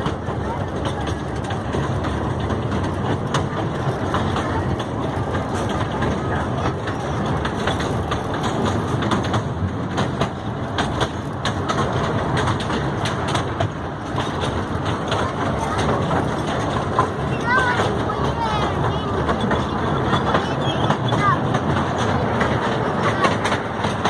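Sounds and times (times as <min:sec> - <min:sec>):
clacks and rattles: 0:00.0 - 0:24.0
ride-on train rumbling: 0:00.0 - 0:24.0.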